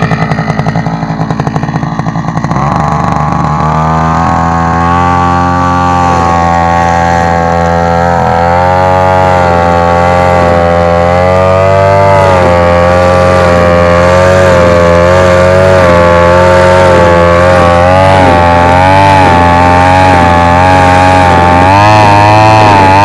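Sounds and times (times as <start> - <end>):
brush cutter engine cutting grass: 0.0 - 23.0.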